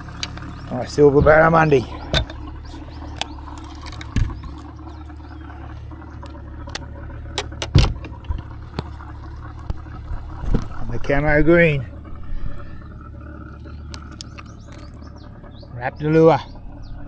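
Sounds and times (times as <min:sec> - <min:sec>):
knocks and clanks in a boat: 0:00.0 - 0:11.5, 0:13.4 - 0:15.7
steady low hum: 0:00.0 - 0:17.0.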